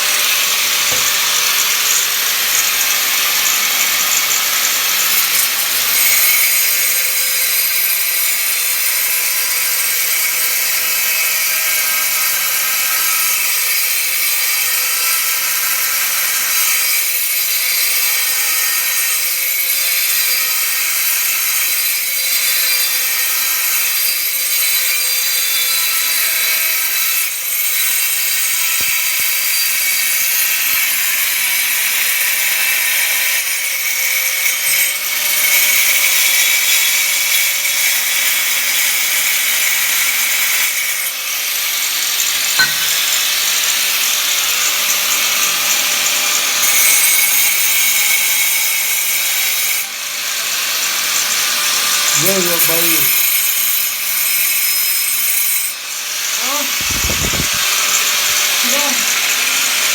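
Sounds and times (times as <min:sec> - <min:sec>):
power tool cutting tile: 0:00.0 - 0:59.9.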